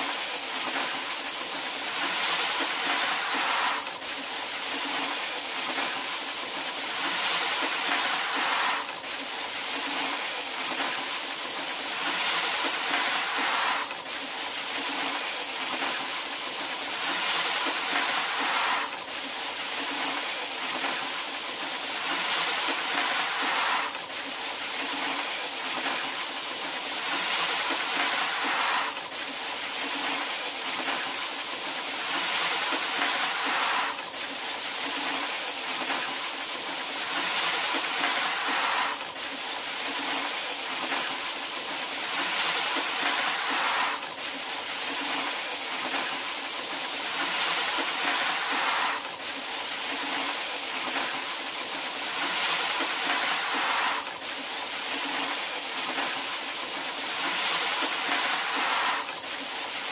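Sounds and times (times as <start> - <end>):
coins pouring and clinking: 0.0 - 59.9.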